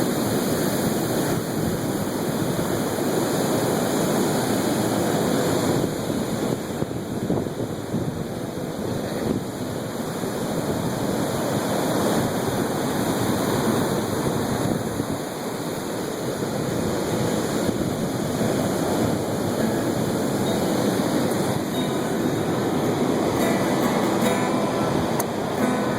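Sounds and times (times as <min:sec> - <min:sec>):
ocean surf washing in: 0:00.0 - 0:25.9
wind on microphone: 0:00.0 - 0:25.9.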